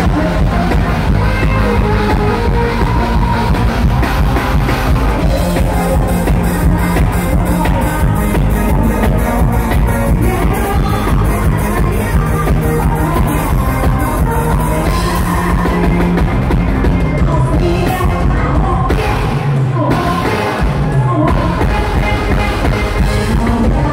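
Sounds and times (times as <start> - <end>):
fast drum-kit beat: 0.0 - 23.9
live band music: 0.0 - 23.9
person singing: 0.0 - 23.9.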